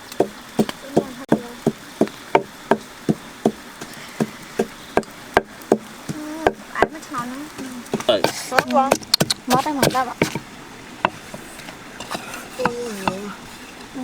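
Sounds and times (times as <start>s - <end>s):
knife chopping on wooden board: 0.2s - 7.0s, 7.6s - 13.3s.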